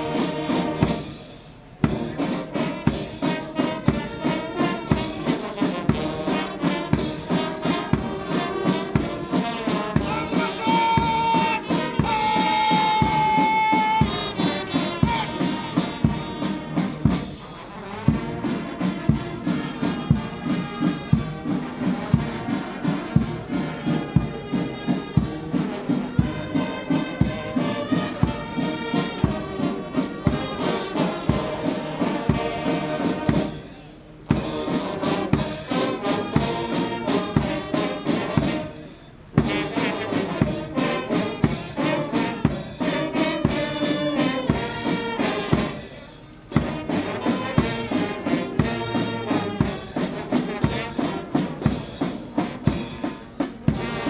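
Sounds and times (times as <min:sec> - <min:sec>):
brass band playing: 0:00.0 - 0:54.0
steady drum beat: 0:00.0 - 0:54.0.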